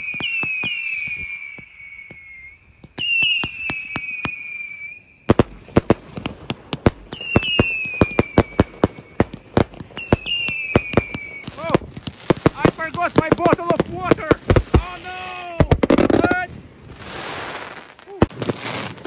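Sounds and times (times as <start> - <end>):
firework whistles: 0.0 - 6.0, 7.0 - 13.5, 14.1 - 19.0
firework bangs: 0.0 - 19.0.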